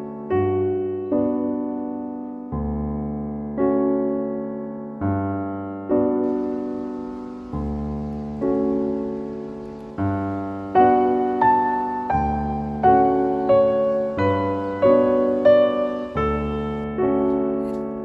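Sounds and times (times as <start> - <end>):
soft piano music: 0.0 - 18.0.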